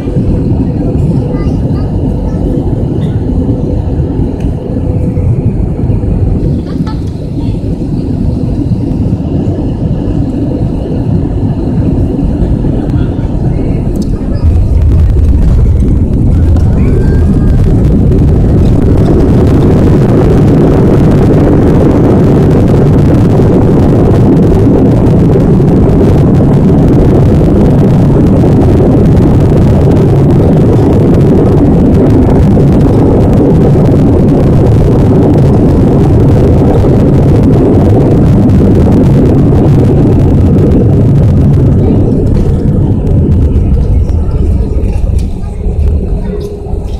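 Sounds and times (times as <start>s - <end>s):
jet engines roaring: 0.0s - 46.9s
runway rumble: 0.0s - 46.9s.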